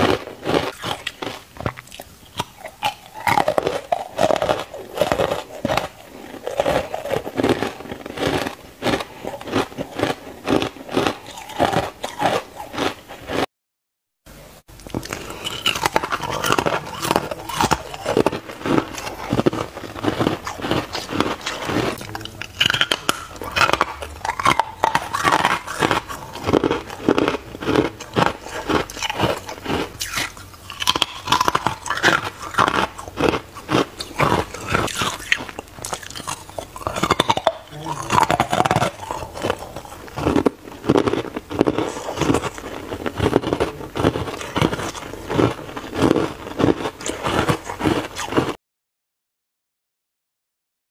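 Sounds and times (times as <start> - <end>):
ice being chewed: 0.0 - 13.5, 14.8 - 48.6.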